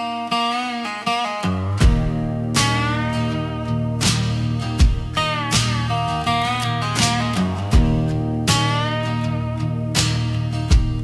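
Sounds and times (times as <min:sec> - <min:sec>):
slide guitar notes: 0:00.0 - 0:11.0
deep bass beat: 0:01.8 - 0:11.0.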